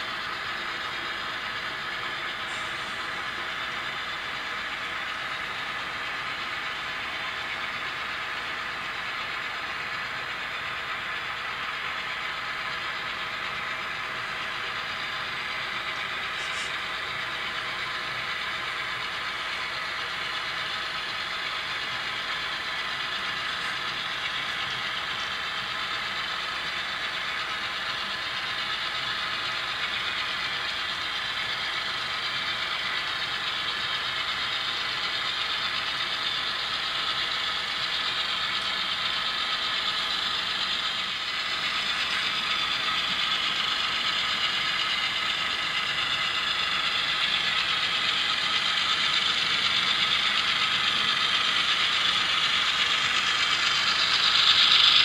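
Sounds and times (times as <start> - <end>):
model train running: 0.0 - 55.0.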